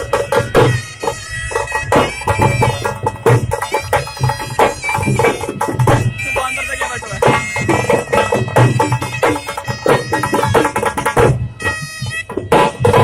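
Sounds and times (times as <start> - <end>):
bagpipe-like drone and melody: 0.0 - 13.0
driving drum beat: 0.0 - 13.0.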